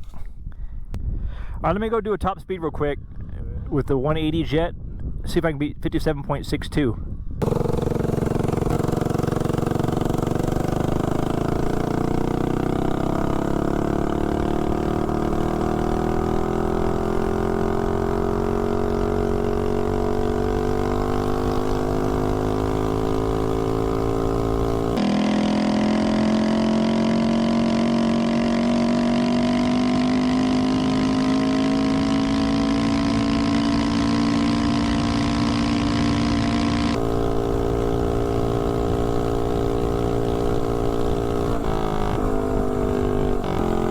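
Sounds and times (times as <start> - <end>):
mini bike engine at full throttle: 7.4 - 43.9.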